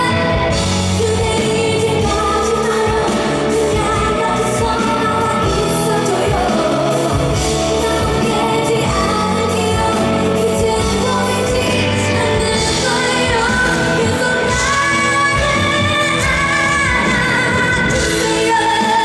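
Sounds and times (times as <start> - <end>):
band accompaniment: 0.0 - 19.0
woman singing pop ballad: 0.0 - 19.0.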